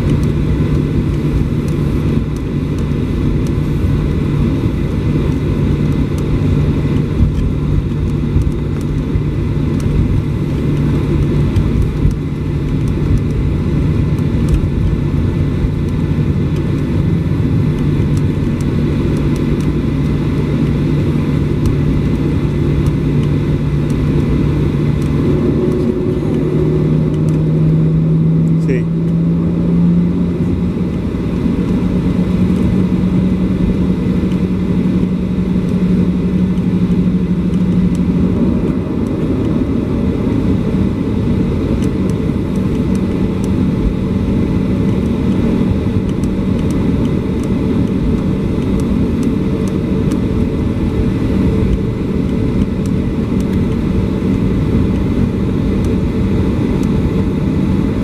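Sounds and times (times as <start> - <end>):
jet engines rumbling in cabin: 0.0 - 58.0
low hum rising in pitch: 0.0 - 58.0.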